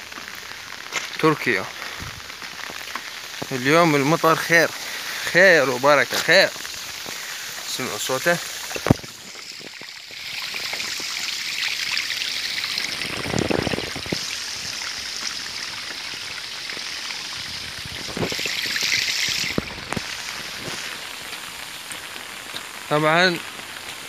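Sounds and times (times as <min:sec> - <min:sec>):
rainwater rushing over pavement: 0:00.0 - 0:24.0.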